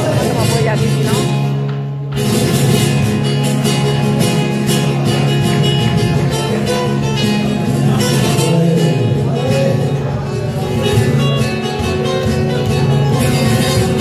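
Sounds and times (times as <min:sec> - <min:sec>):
flamenco acoustic guitar strumming: 0:00.0 - 0:14.0.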